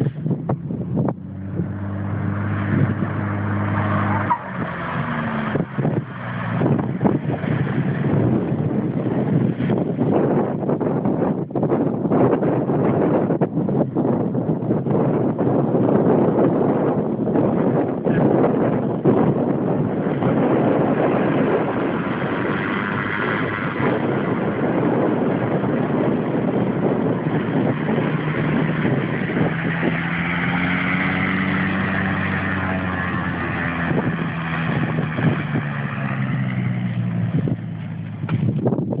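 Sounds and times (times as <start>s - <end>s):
propeller plane engine drone: 0.0s - 39.0s.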